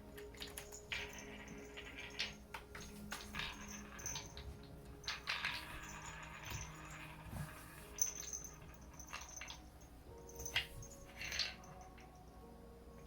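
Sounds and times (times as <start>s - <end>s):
cats playing with toys: 0.1s - 12.2s.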